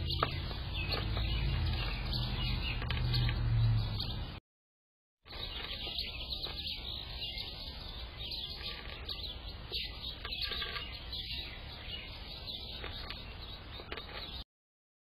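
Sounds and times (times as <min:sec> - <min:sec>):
songbirds chirping: 0:00.0 - 0:04.4, 0:05.3 - 0:14.4.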